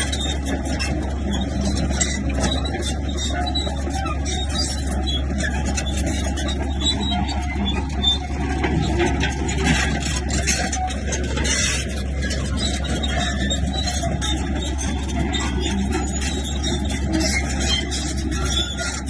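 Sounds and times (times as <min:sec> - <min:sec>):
bulldozer diesel engine running: 0:00.0 - 0:19.0
tracks clanking and squeaking: 0:00.0 - 0:19.0.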